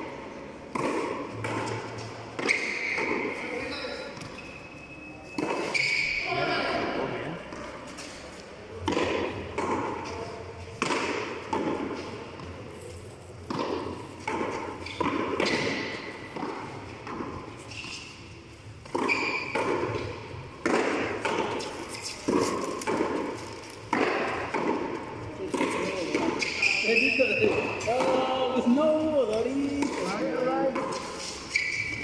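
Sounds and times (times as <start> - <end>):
ball slapping walls with echo: 0.0 - 4.5, 5.3 - 32.0.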